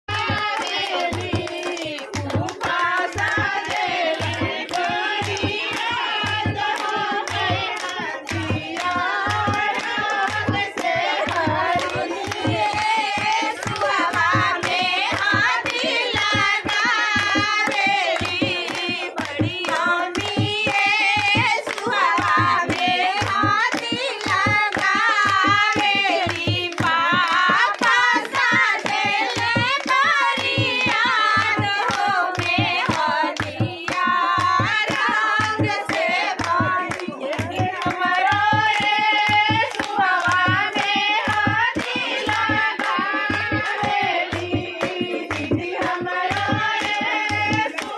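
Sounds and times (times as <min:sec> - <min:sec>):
drum beating steady rhythm: 0:00.1 - 0:47.9
hand claps: 0:00.1 - 0:47.9
women singing folk song: 0:00.1 - 0:47.9.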